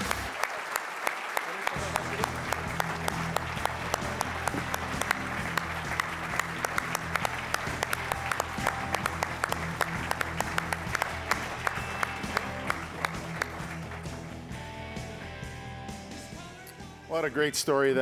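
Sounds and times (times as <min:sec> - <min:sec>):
audience applauding: 0:00.0 - 0:14.7
background music: 0:00.0 - 0:18.0.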